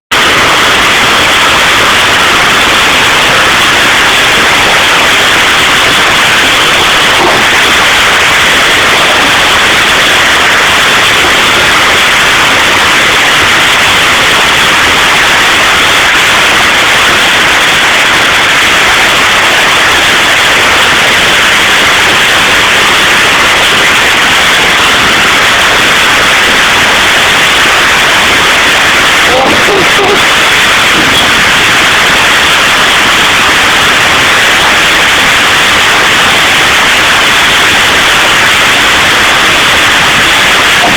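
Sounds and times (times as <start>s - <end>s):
hail and heavy rain: 0.1s - 40.9s.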